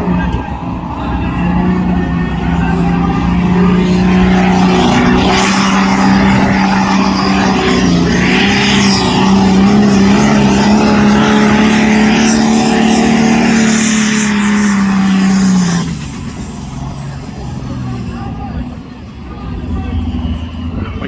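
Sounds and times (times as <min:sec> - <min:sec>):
tractor engine at full throttle: 0:00.0 - 0:21.0.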